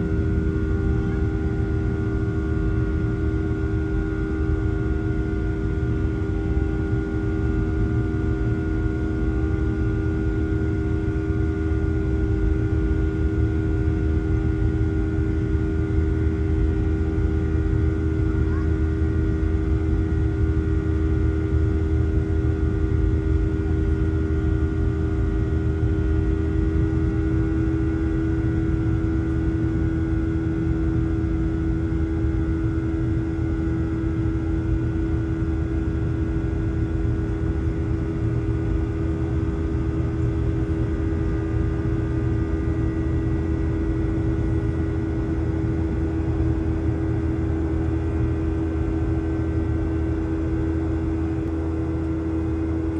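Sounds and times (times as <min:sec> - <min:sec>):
strong steady hum: 0:00.0 - 0:52.9.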